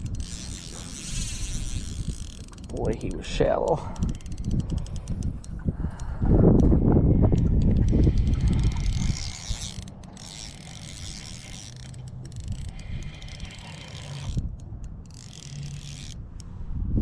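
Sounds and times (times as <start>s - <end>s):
fishing reel gears whirring: 0.0s - 16.5s.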